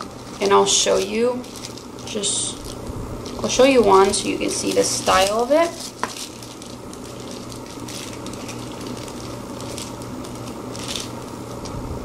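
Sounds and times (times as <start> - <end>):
plastic packaging crinkling: 0.0 - 11.8
low hum: 0.0 - 12.0.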